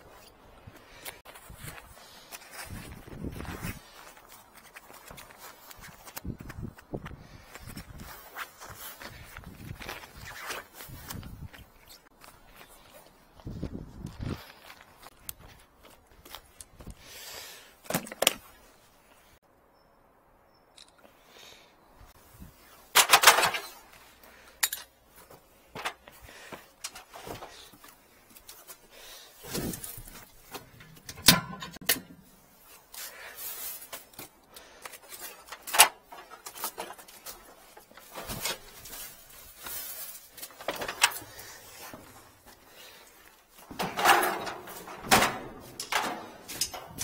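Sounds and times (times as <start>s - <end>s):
footsteps and handling clatter: 0.0s - 17.1s, 17.8s - 19.3s, 22.2s - 47.0s.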